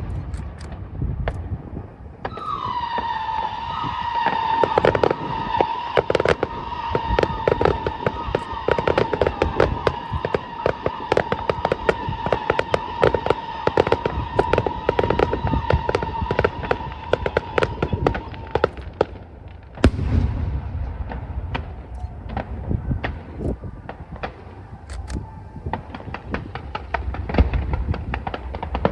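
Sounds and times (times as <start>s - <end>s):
firework boom with low rumble: 0.0s - 28.9s
fireworks crackling: 0.0s - 28.9s.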